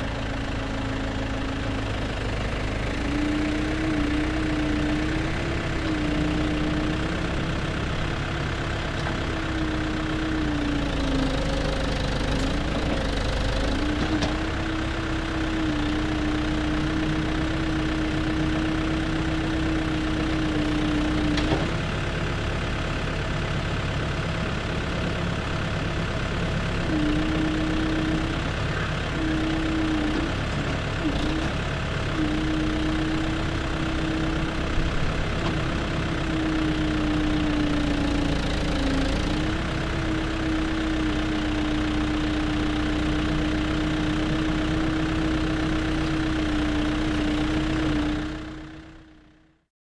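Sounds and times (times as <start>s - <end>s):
diesel engine running: 0.0s - 49.7s.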